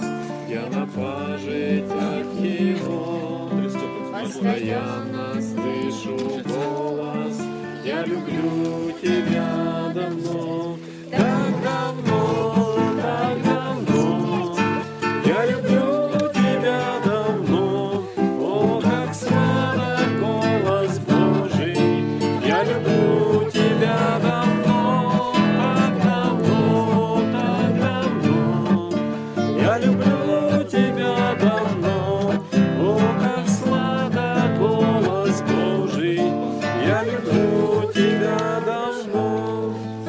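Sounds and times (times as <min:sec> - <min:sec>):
acoustic guitar strumming: 0:00.0 - 0:40.0
voices singing: 0:00.0 - 0:40.0.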